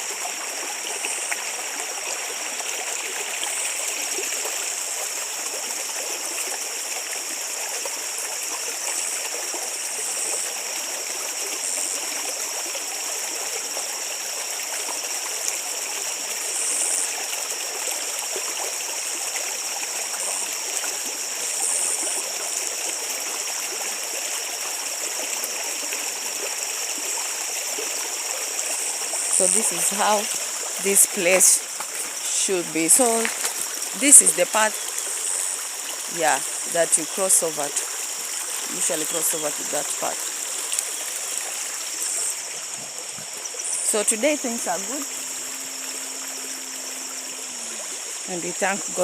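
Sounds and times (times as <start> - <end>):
stream rushing and gurgling: 0.0 - 49.0.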